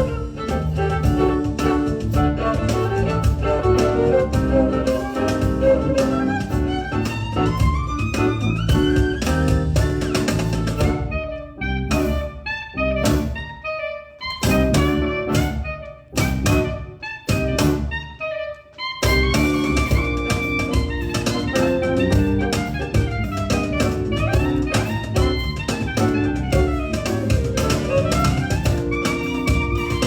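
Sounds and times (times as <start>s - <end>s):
instrumental ensemble music: 0.0s - 30.0s.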